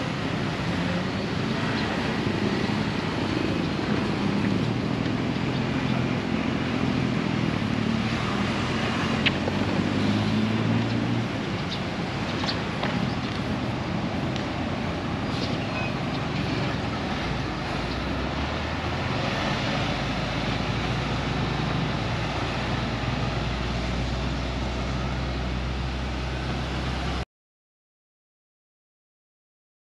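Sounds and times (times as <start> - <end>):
diesel truck engine running low: 0.0 - 27.2
street traffic: 0.0 - 27.2.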